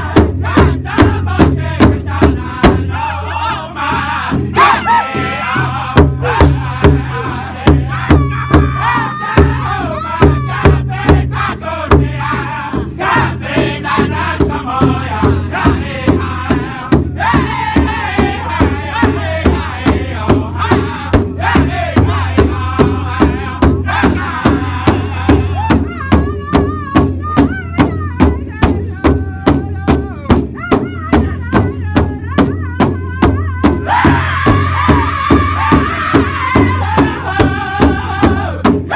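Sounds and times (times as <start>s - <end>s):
large drum beating: 0.0s - 38.9s
men singing in unison: 0.0s - 38.9s.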